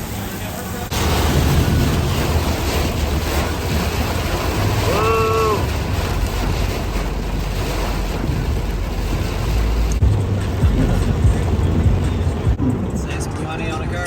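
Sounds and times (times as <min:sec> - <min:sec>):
heavy rain on car: 0:00.0 - 0:14.0
road noise rumble: 0:00.0 - 0:14.0.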